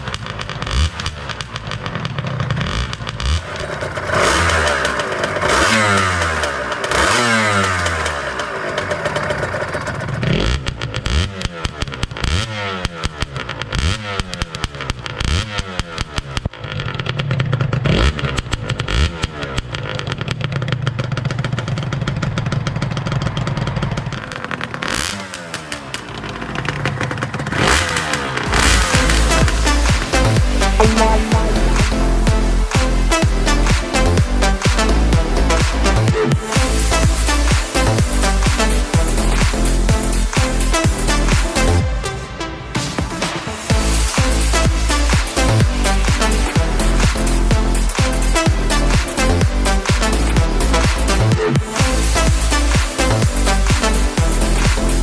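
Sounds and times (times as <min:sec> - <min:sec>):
exhaust crackle: 0:00.0 - 0:55.0
motorcycle engine revving: 0:00.0 - 0:55.0.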